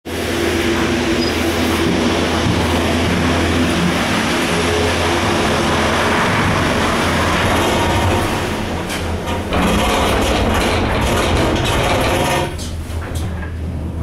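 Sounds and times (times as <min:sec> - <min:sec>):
gondola mechanical rumble: 0:00.1 - 0:14.0
low hum: 0:00.1 - 0:14.0.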